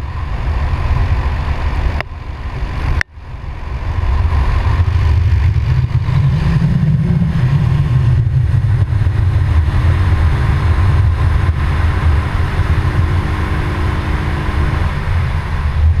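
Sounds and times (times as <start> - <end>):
atv engine running: 0.0 - 16.0
tyres on gravel road: 0.0 - 16.0
wind rumble on microphone: 0.0 - 16.0.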